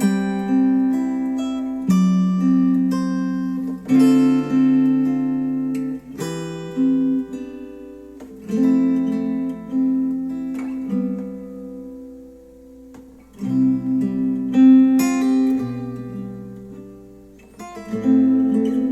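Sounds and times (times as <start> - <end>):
acoustic guitar chords: 0.0 - 18.9.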